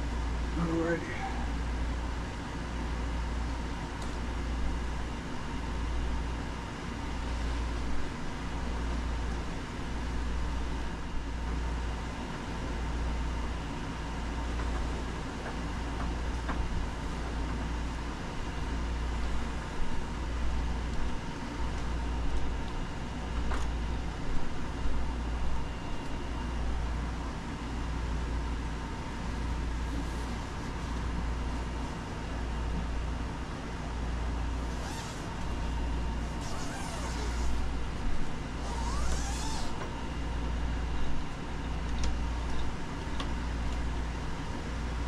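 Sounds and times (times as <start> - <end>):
low mechanical rumble and hum: 0.0 - 45.0.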